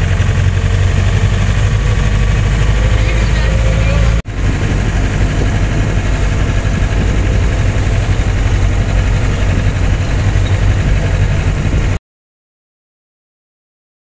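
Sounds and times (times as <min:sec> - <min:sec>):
vehicle engine running: 0:00.0 - 0:12.0
wind and road noise: 0:00.0 - 0:12.0.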